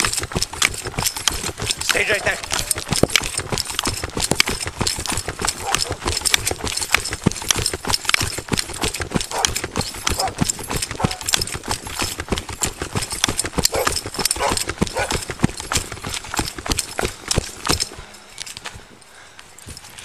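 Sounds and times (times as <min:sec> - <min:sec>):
running footsteps on pavement: 0:00.0 - 0:20.0.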